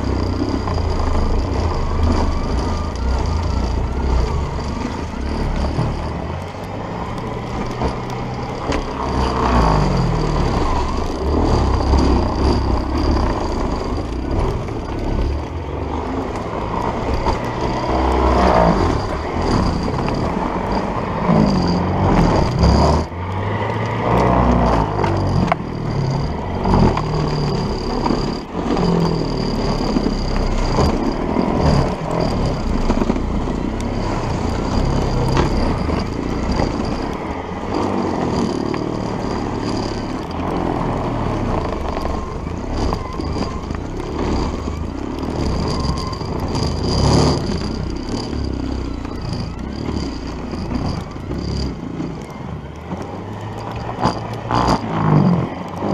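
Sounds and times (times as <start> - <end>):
snowblower churning snow: 0.0 - 55.9.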